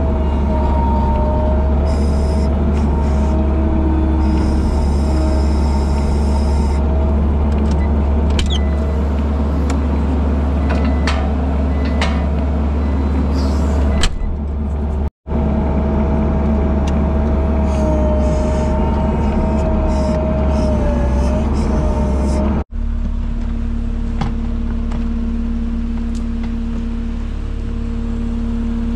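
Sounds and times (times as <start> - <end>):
skid loader engine running: 0.0 - 28.9.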